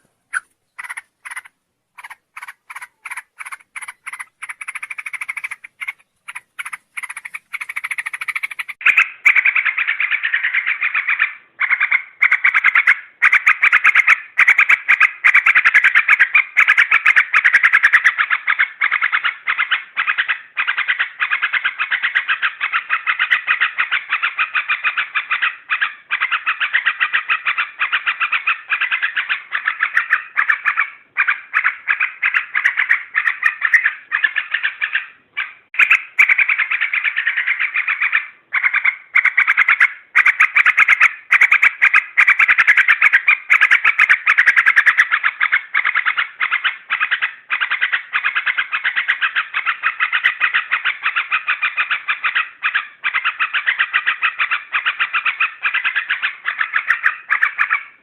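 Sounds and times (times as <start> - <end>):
bird chattering calls: 0.0 - 58.0.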